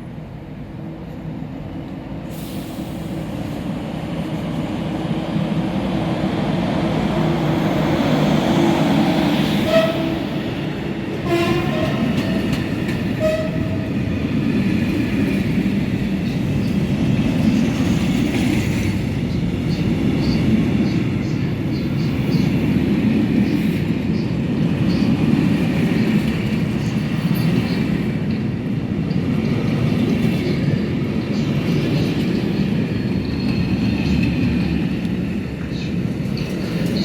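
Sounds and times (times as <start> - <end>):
train rumbling past: 0.0 - 37.0.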